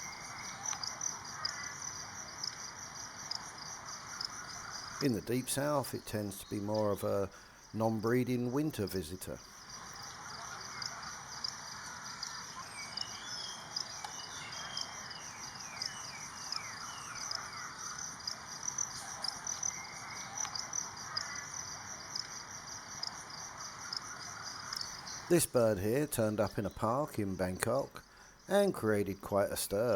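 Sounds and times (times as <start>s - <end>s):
insect chorus pulsing: 0.0s - 29.9s.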